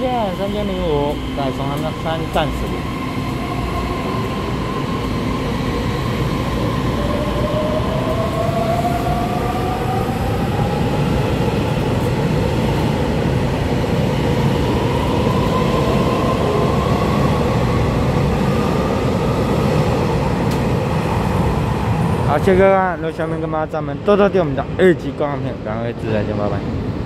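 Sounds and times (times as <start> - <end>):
train rolling rumble: 0.0 - 27.0.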